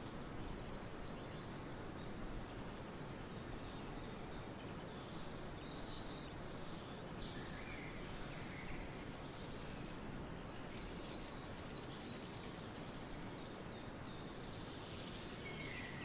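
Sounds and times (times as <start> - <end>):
faint bird chirps: 0.0 - 16.0
outdoor ambience hiss: 0.0 - 16.0.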